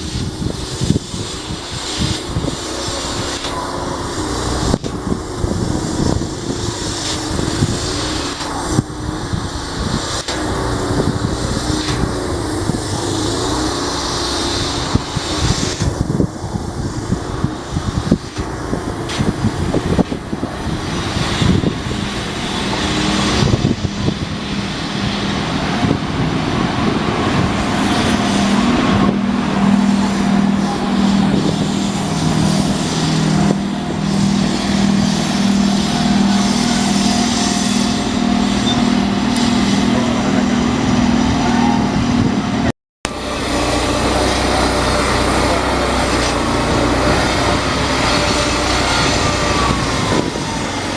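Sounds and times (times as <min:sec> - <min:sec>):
locomotive droning hum: 0:00.0 - 0:50.9.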